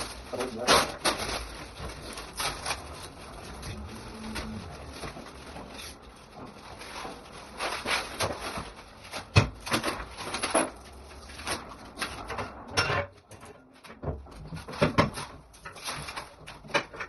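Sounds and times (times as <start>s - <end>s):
packaging rustling and scraping: 0.0s - 17.0s.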